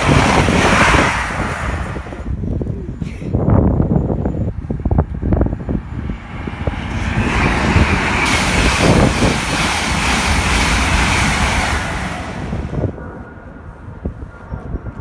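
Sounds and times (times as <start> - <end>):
train passing at speed: 0.0 - 2.6, 3.4 - 15.0
wind buffeting microphone: 0.0 - 15.0.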